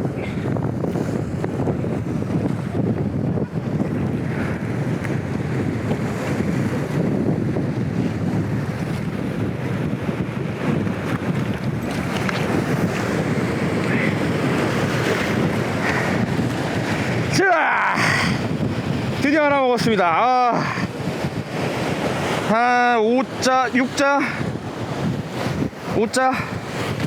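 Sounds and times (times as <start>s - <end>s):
sea waves breaking: 0.0s - 27.0s
wind buffeting microphone: 0.0s - 27.0s.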